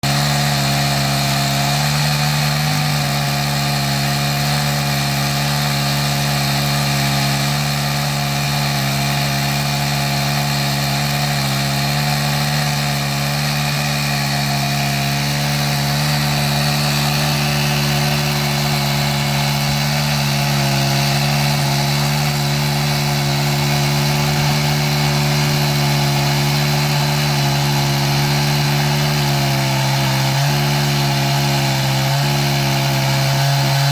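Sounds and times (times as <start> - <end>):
chainsaw cutting through log: 0.0 - 33.9.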